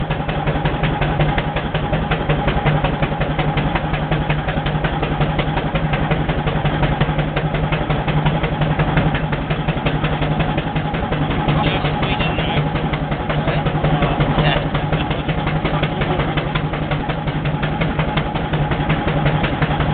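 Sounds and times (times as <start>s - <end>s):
steady low hum: 0.0s - 19.9s
steam engine exhaust beating: 0.0s - 19.9s.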